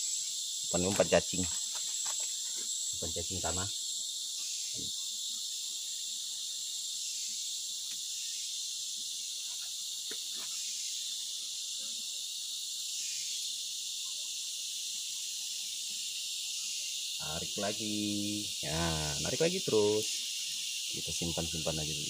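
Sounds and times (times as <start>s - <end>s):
forest insects chorus: 0.0s - 22.0s.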